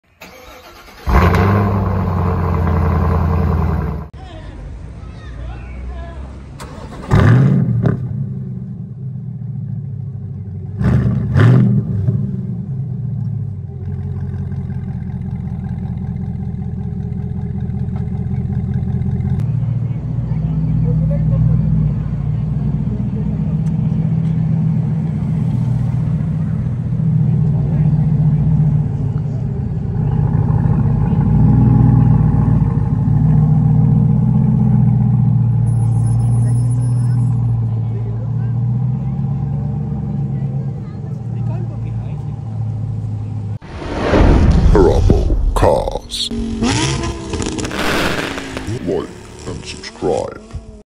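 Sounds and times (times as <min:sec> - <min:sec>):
car engine starting and revving: 0:00.1 - 0:04.2, 0:06.4 - 0:19.5, 0:21.6 - 0:41.5, 0:42.4 - 0:50.8.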